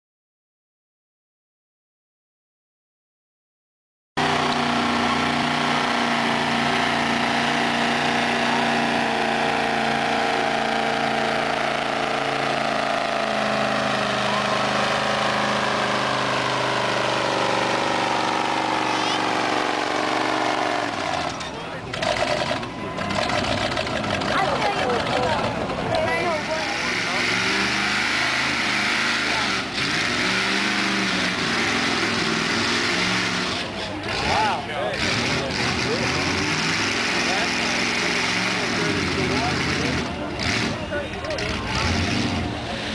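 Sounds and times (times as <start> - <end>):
truck engine at high revs: 4.2 - 42.9
voices of onlookers: 4.5 - 42.9.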